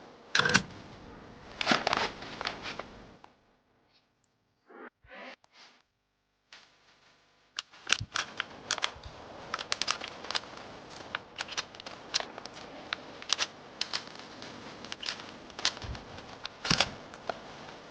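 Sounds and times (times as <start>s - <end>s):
faint steady hiss: 0.0s - 4.6s, 5.5s - 17.9s.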